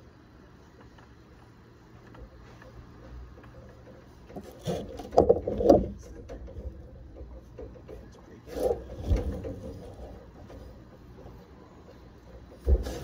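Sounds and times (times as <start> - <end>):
rubbing and scraping handling noise: 2.1 - 13.0.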